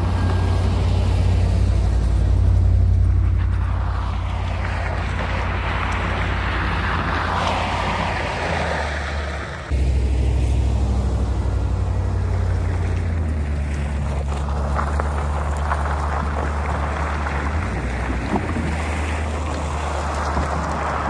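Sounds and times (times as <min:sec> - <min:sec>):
log dragging over gravel: 0:00.0 - 0:09.2, 0:10.4 - 0:21.0
engine droning under load: 0:00.0 - 0:21.0.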